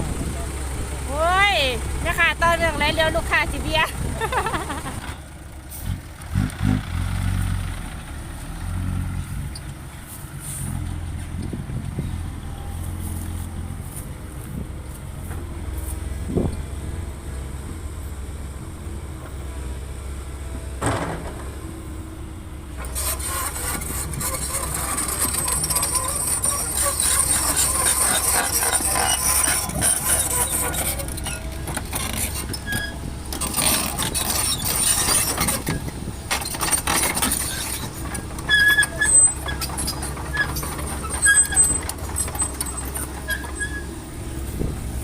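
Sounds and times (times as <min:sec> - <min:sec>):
excavator diesel engine: 0:00.0 - 0:45.0.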